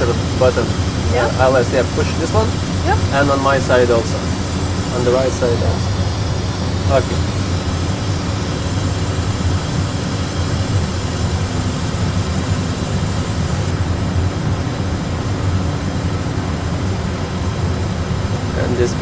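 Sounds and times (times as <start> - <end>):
cockpit engine and airflow rumble: 0.0 - 19.0.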